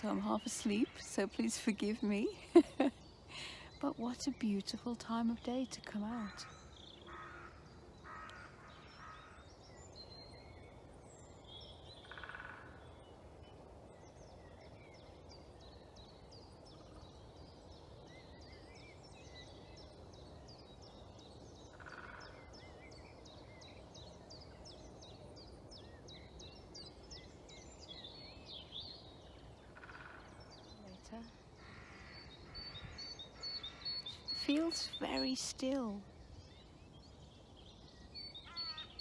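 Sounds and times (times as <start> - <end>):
small birds chirping and singing: 0.0 - 39.0.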